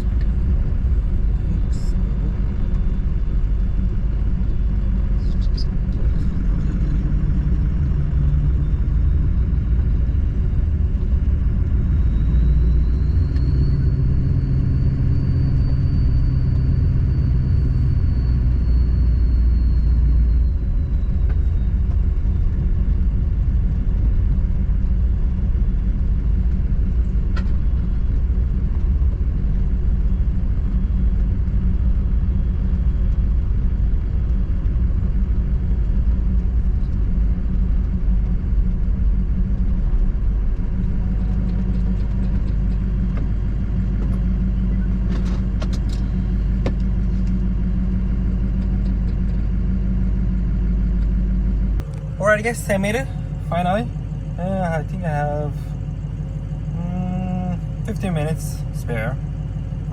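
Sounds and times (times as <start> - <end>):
faint high whine: 0.0 - 59.9
low hum: 0.0 - 59.9
truck engine and road noise: 0.0 - 59.9.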